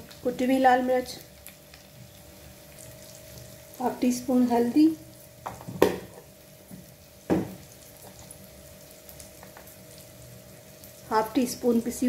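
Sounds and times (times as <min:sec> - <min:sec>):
faint steady hum: 0:00.0 - 0:12.0
food frying in oil: 0:00.0 - 0:12.0.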